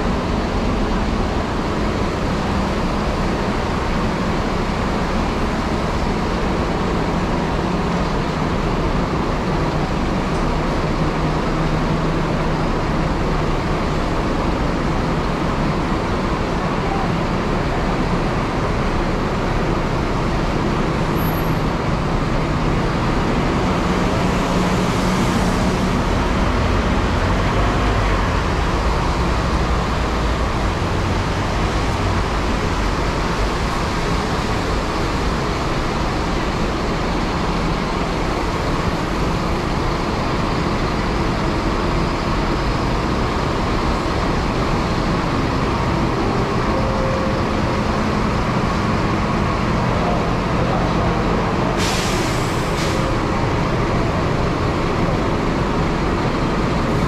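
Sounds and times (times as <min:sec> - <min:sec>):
bus engines humming: 0:00.0 - 0:57.0.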